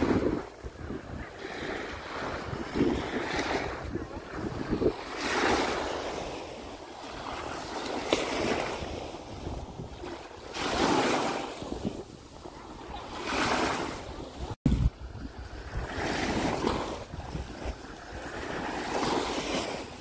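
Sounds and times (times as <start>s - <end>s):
waves breaking on sandy beach: 0.0s - 20.0s
wind buffeting microphone: 0.0s - 20.0s.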